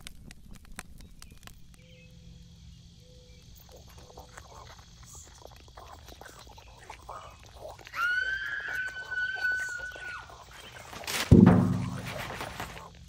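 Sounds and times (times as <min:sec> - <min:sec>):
squishy clicks and crackles: 0:00.0 - 0:02.0, 0:03.3 - 0:13.0
insect chirring: 0:00.0 - 0:13.0.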